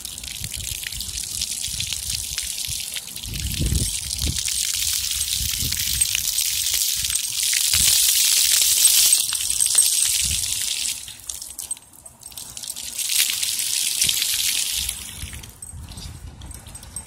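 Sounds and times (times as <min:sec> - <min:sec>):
fountain jets hissing on pavement: 0:00.0 - 0:15.6.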